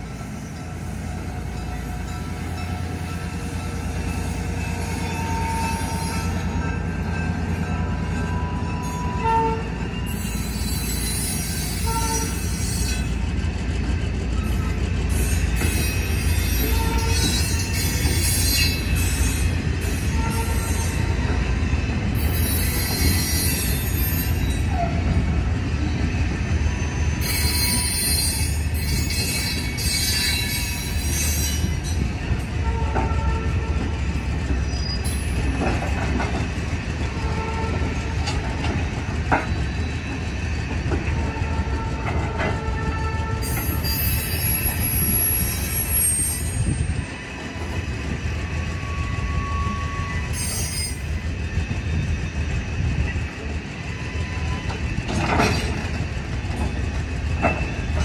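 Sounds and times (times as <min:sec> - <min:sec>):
locomotive and train rumbling: 0:00.0 - 0:58.0
train wheel squeal: 0:00.0 - 0:58.0.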